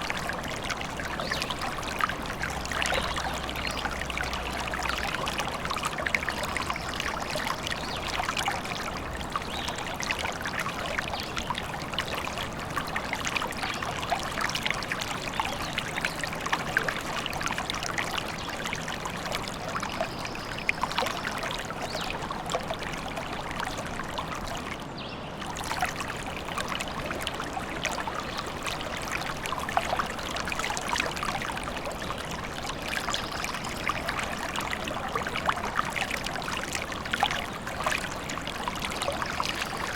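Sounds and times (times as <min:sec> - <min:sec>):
stream babbling and trickling: 0:00.0 - 0:39.9.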